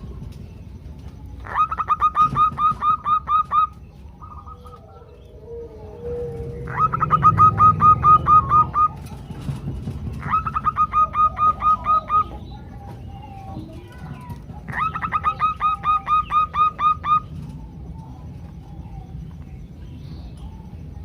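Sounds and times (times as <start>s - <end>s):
doves calling in rapid short notes: 0.0s - 21.0s
steady low hum: 0.0s - 21.0s.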